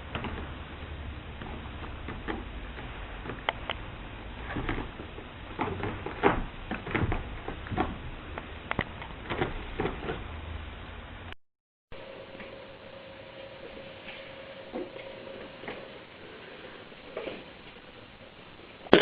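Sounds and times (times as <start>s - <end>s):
low steady rumble: 0.0s - 18.7s.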